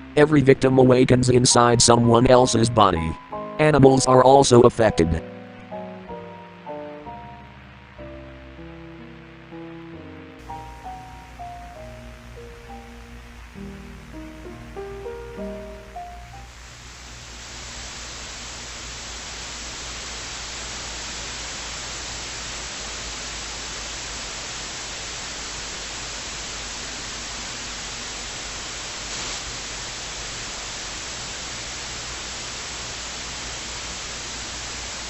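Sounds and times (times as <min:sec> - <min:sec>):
static hiss: 0:00.0 - 0:35.0.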